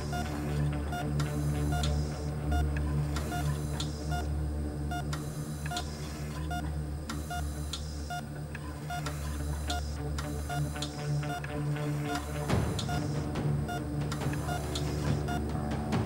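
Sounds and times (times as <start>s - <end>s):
patient monitor beeping: 0.0s - 15.6s
low steady drone: 0.0s - 16.0s.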